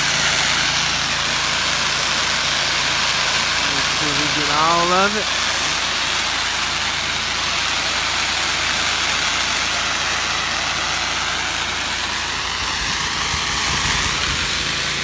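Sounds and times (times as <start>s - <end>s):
pump engine droning: 0.0s - 15.0s
spray hissing: 0.0s - 15.0s.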